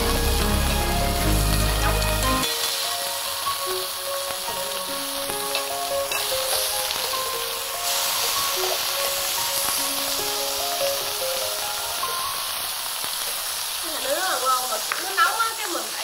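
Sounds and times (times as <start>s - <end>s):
soft background music: 0.0s - 15.0s
meat sizzling on a grill: 0.0s - 16.0s.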